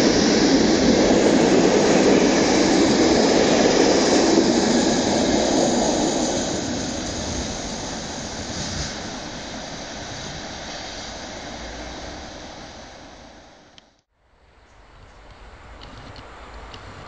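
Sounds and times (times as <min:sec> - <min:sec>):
passenger train rolling on rails: 0:00.0 - 0:14.0, 0:14.6 - 0:17.0.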